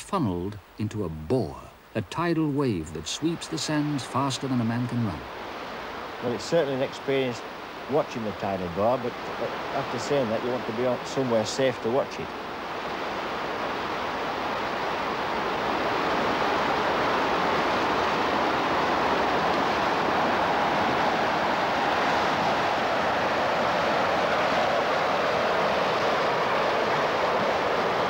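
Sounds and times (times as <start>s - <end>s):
rush of tidal water: 0.0s - 28.0s.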